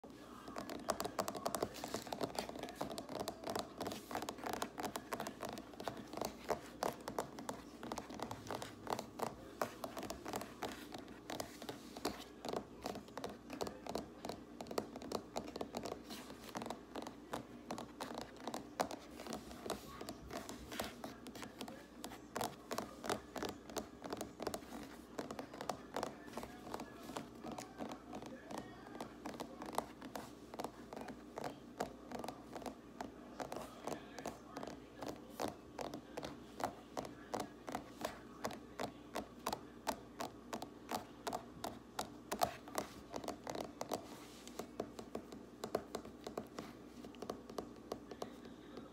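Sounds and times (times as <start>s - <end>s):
fingers tapping on hard surface: 0.4s - 48.9s.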